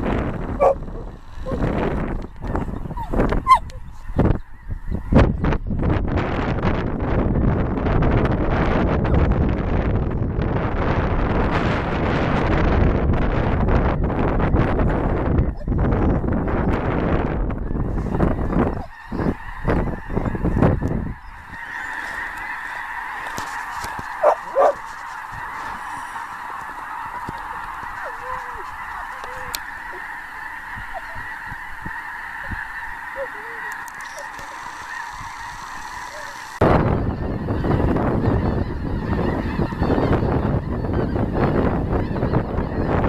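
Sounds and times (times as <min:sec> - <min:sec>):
flock of geese honking: 0:00.0 - 0:43.0
wind buffeting microphone: 0:00.0 - 0:43.0.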